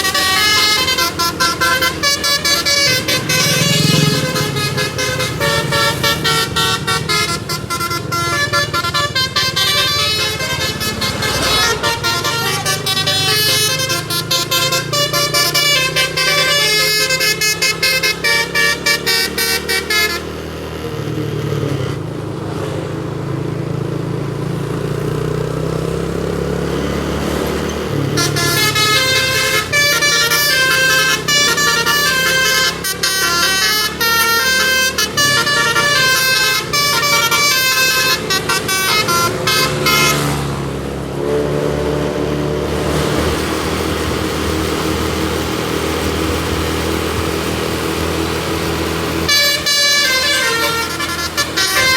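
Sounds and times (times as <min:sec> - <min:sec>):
bus musical air horn tunes: 0:00.0 - 0:22.1, 0:27.7 - 0:51.9
bus engine: 0:00.0 - 0:51.9
road noise: 0:00.0 - 0:51.9.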